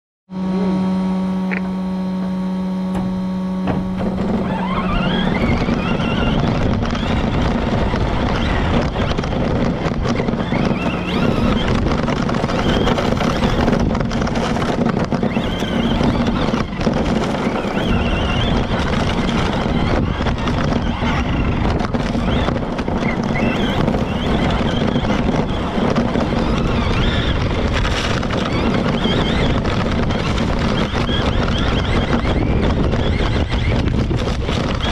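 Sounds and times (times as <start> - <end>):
electric motor whine: 0.3 - 34.9
tyres rattling on grit: 2.2 - 34.9.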